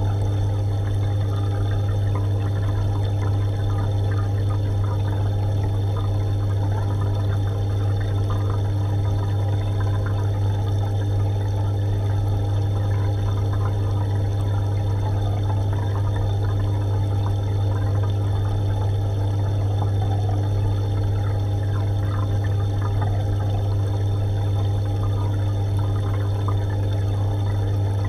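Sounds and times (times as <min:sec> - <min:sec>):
aquarium pump humming: 0:00.0 - 0:28.0
water trickling: 0:00.0 - 0:28.0.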